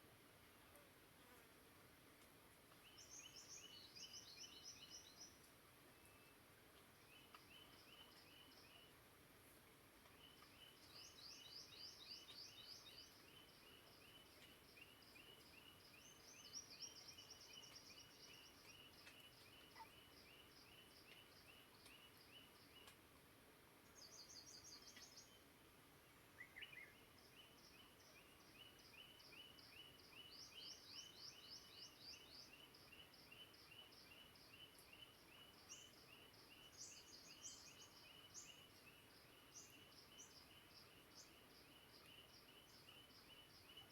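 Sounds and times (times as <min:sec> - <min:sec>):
soft hiss: 0:00.0 - 0:43.9.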